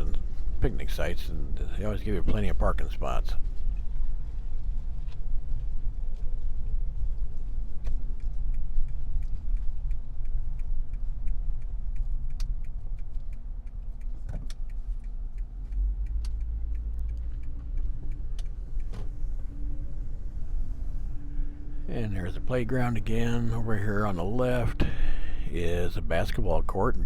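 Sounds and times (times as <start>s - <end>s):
engine and road rumble: 0.0s - 27.0s.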